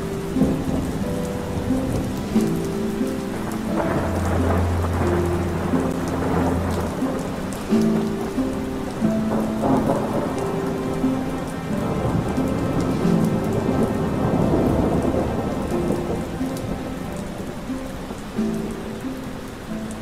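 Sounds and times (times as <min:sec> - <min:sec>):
soft sustained music notes: 0:00.0 - 0:20.0
steady falling rain: 0:00.0 - 0:20.0
thunder rumbling: 0:00.0 - 0:20.0.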